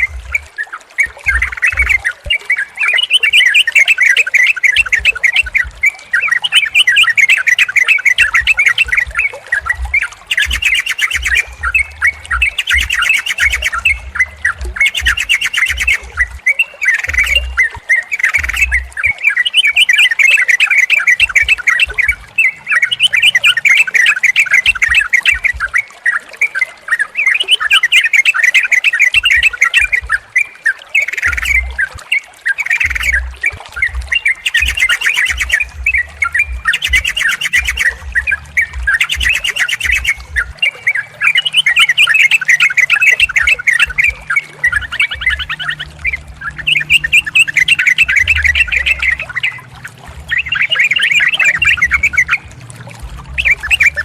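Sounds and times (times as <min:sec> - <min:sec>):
bulbuls chattering and calling: 0:00.0 - 0:54.0.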